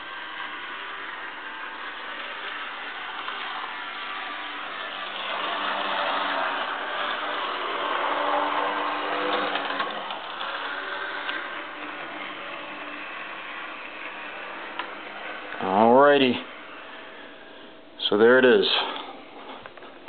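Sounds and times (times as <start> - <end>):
wheels rattling on rails: 0.0 - 17.1
model train motor whirring: 0.0 - 17.8.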